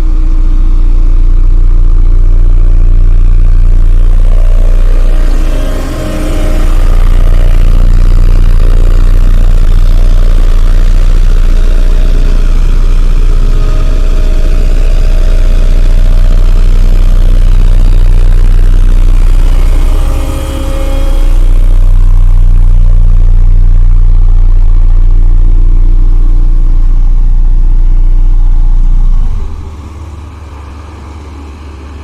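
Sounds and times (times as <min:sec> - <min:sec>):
road roller diesel engine humming: 0:00.0 - 0:32.0.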